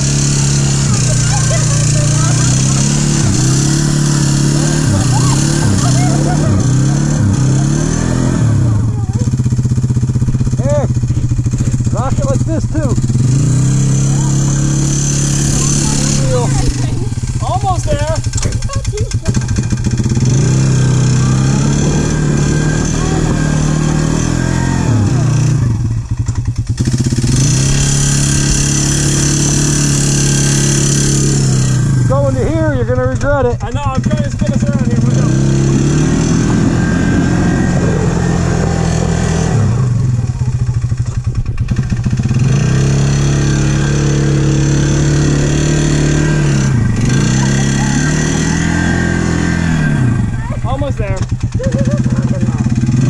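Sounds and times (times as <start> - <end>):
atv engine revving and idling: 0.0 - 53.0
wheels spinning in mud: 0.0 - 53.0.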